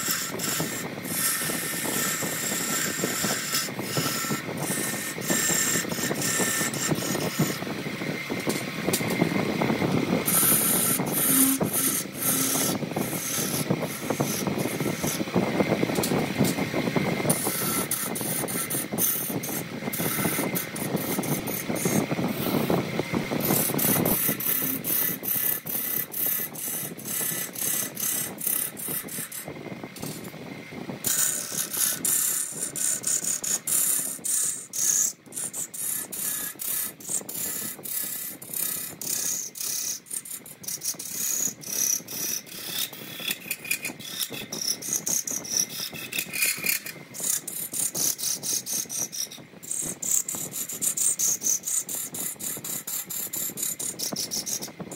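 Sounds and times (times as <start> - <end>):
turning tool scraping wood: 0.0 - 30.4, 31.0 - 54.9
wood lathe spinning: 0.0 - 54.9.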